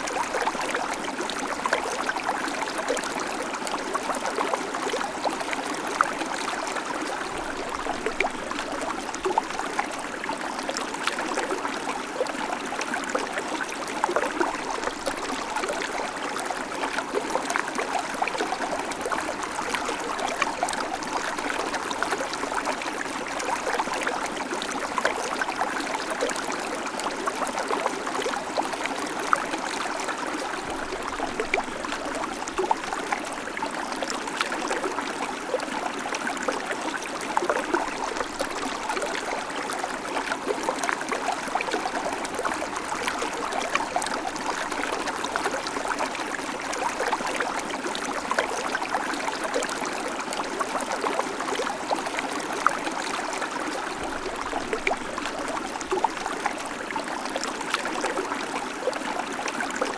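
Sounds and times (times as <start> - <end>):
creek babbling over stones: 0.0 - 59.9.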